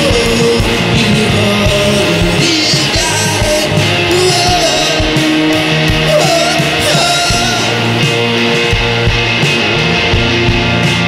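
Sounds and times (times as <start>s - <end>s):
electric guitar lead line bending: 0.0s - 11.0s
rock band playing live: 0.0s - 11.0s.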